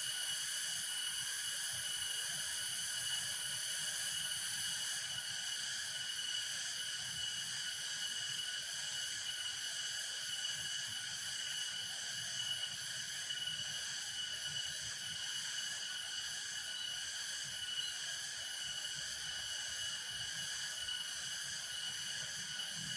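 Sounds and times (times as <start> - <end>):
insects trilling: 0.0 - 22.9.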